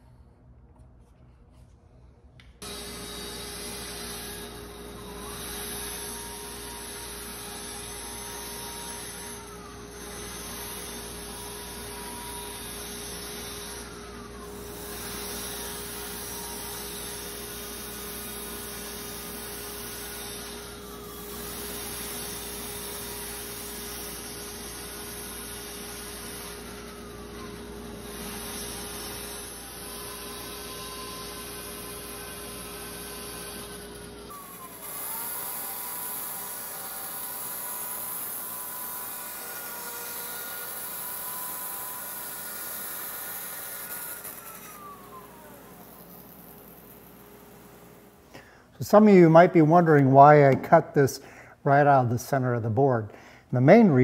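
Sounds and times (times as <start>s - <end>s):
saw blade whine cutting wood: 2.6s - 48.2s
bandsaw motor hum: 2.6s - 49.1s.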